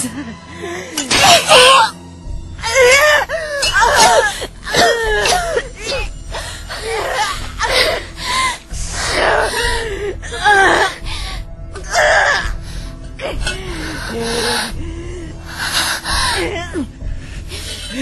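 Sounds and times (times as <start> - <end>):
dramatic background music: 0.0 - 18.0
woman gasping and moaning: 2.6 - 18.0.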